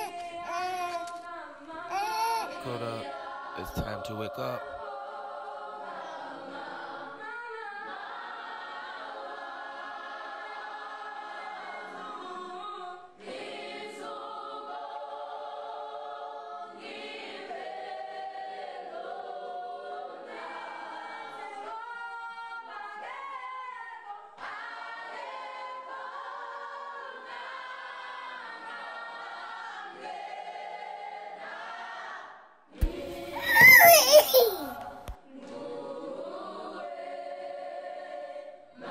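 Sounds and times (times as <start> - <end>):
choral a cappella singing: 0.0 - 38.9.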